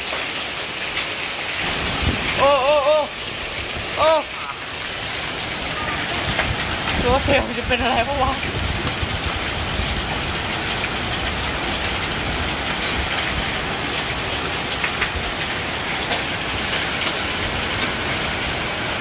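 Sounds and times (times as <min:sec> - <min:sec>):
hailstones ticking: 0:00.0 - 0:19.0
heavy rain on metal roof: 0:00.0 - 0:19.0.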